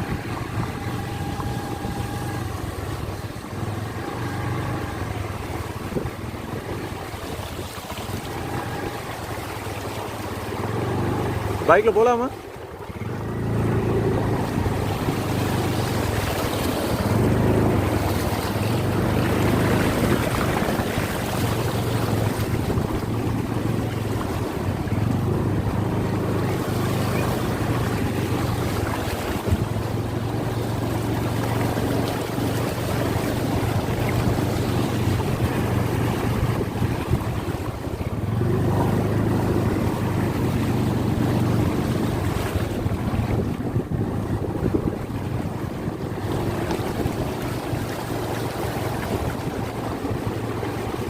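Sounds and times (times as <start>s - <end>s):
wind rushing over microphone: 0.0s - 9.6s, 12.9s - 51.0s
motorcycle engine running: 0.0s - 51.0s.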